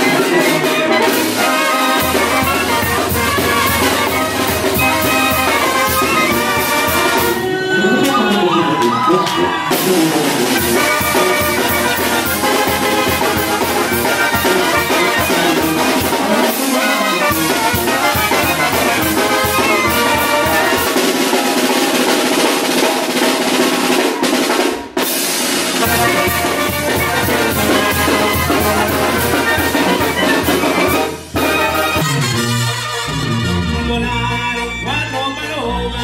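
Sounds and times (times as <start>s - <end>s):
clarinet: 0.0s - 21.3s, 25.8s - 36.0s
drums with steady beat: 0.0s - 33.2s
live brass band music: 0.0s - 36.0s
tuba: 0.0s - 36.0s.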